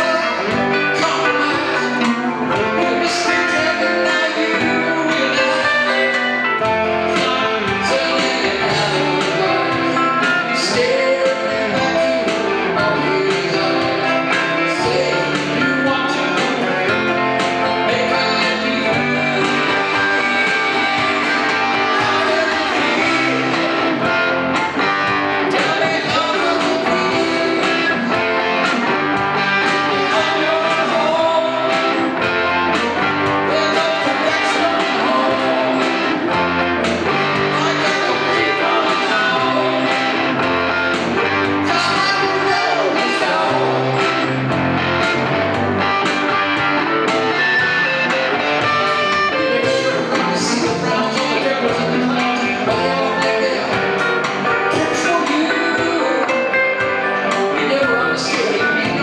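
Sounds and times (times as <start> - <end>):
steady drum beat: 0.0 - 57.6
electric guitars playing: 0.0 - 59.0.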